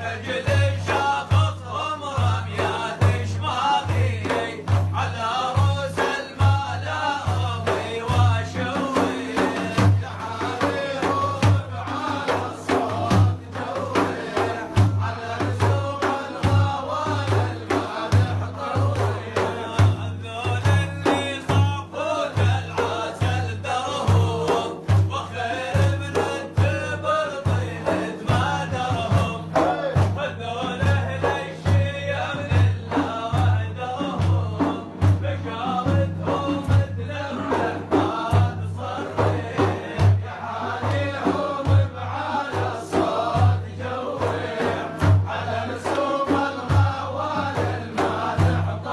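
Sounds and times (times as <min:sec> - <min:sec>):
deep drum beat: 0:00.0 - 0:48.9
man singing religious song: 0:00.0 - 0:48.9.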